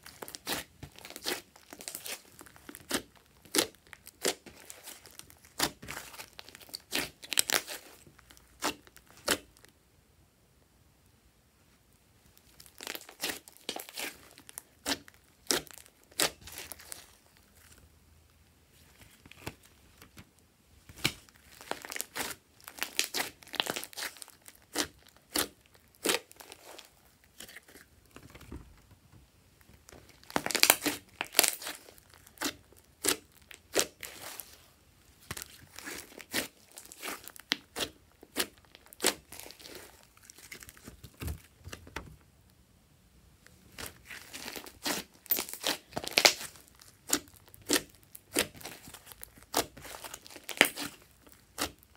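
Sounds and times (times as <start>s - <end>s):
slime popping and crackling: 0.0s - 9.7s, 12.4s - 17.8s, 21.0s - 28.4s, 29.8s - 34.6s, 35.2s - 41.6s, 43.7s - 51.9s.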